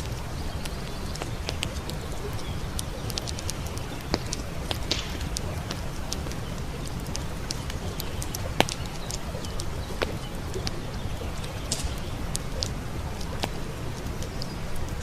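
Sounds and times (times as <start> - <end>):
campfire crackling and popping: 0.0 - 15.0
stream flowing: 0.0 - 15.0.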